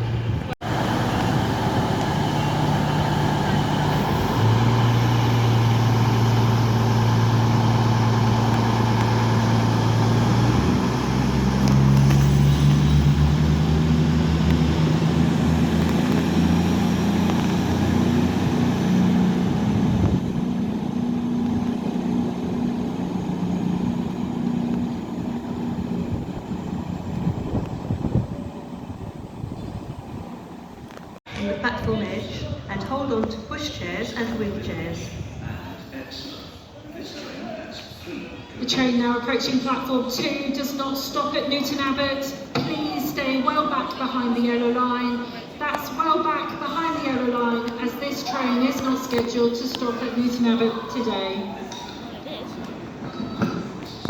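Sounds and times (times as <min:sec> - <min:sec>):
diesel train engine humming: 0:00.0 - 0:31.2, 0:39.0 - 0:51.6.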